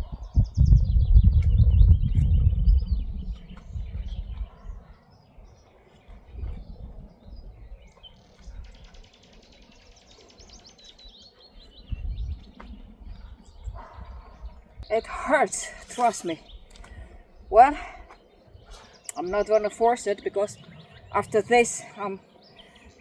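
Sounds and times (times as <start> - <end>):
birds chirping and singing: 0.0 - 23.0
wind rumbling on microphone: 0.0 - 23.0.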